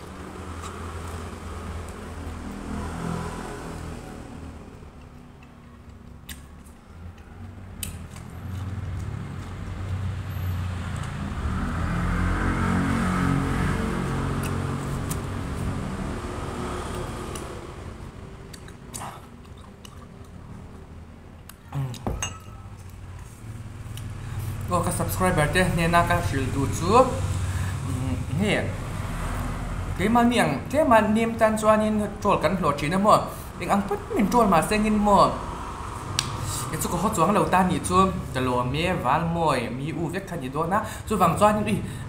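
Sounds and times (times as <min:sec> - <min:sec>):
vehicle passing: 0:00.0 - 0:21.3, 0:22.8 - 0:42.0.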